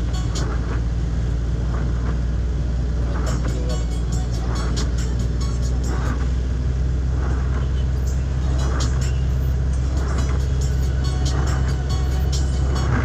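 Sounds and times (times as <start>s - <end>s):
car driving in rain: 0.0s - 13.0s.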